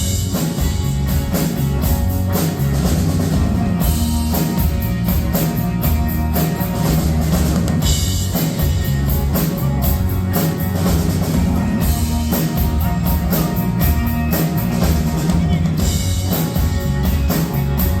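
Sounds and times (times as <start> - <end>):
drum kit beat: 0.0 - 18.0
live rock band playing: 0.0 - 18.0.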